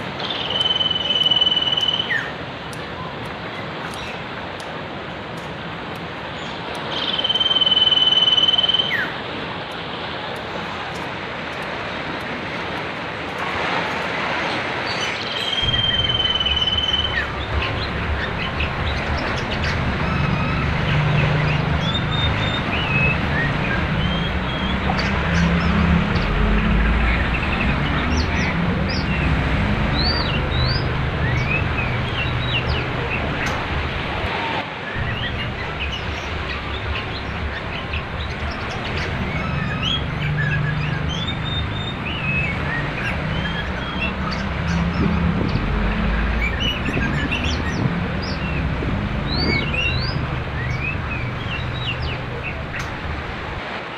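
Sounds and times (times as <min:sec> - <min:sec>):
river rushing: 0:00.0 - 0:53.9
songbirds chirping: 0:00.0 - 0:53.9.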